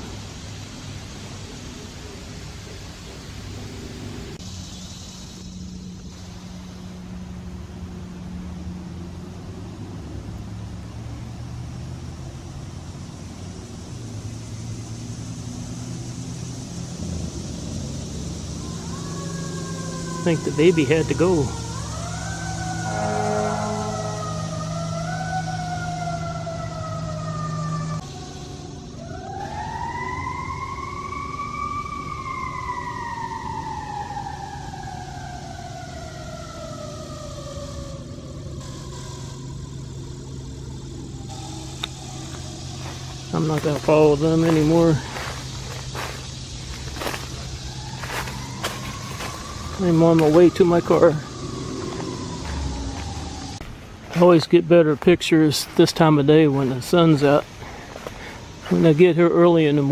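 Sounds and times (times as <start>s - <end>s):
low steady hum: 0.0s - 59.9s
motor traffic drone: 0.0s - 59.9s
siren wailing: 3.4s - 13.2s, 14.0s - 59.9s.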